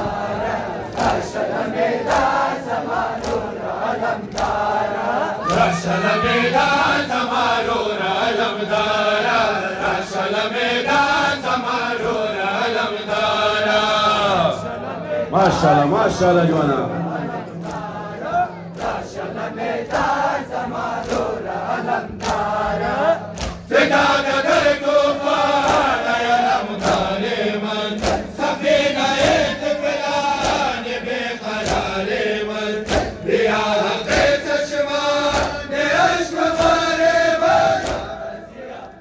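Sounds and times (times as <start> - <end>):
men chanting in unison: 0.0 - 39.0.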